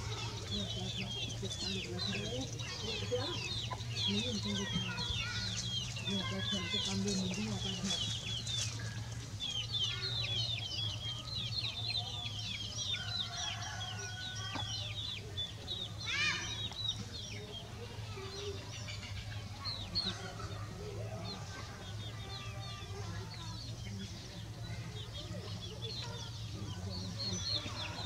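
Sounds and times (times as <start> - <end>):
chicks peeping and chirping: 0.0 - 28.0.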